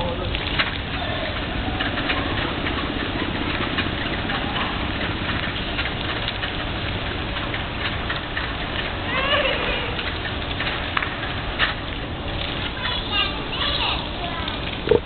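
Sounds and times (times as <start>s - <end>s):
fountain water splashing on paving: 0.0s - 15.0s.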